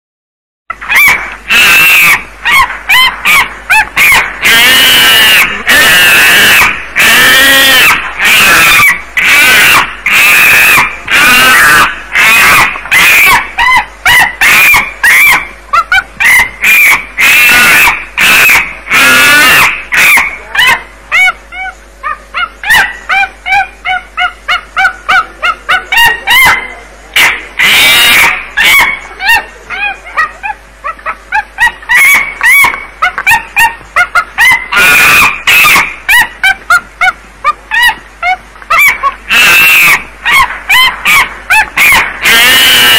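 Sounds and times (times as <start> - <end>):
monkey screeching: 0.7 - 42.9
monkey yelps: 0.7 - 42.9.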